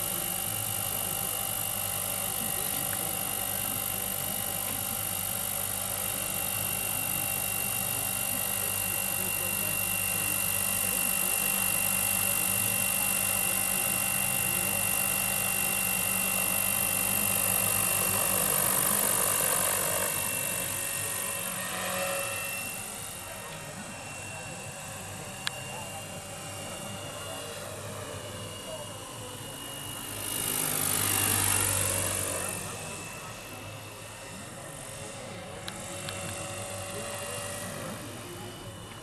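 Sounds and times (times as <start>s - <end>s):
high motor whine: 0.0s - 39.0s
model helicopter rotor hum: 0.0s - 39.0s.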